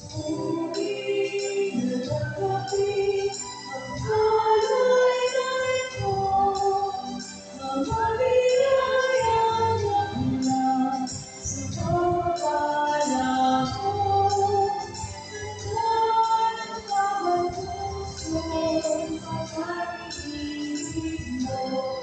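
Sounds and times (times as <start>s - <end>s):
hymn sung with instruments: 0.0s - 22.0s.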